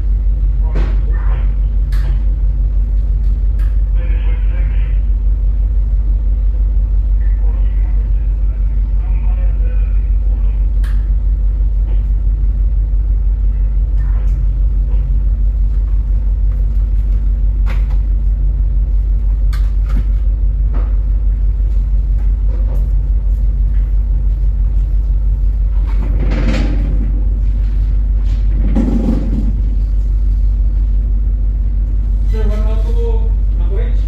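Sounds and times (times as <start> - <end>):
ship machinery rumble: 0.0 - 34.0.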